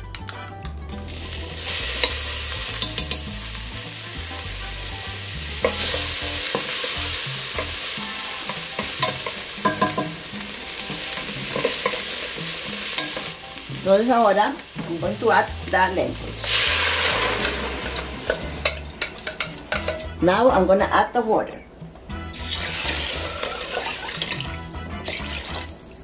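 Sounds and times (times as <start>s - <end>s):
garlic sizzling in oil: 1.0s - 20.1s, 22.3s - 26.0s.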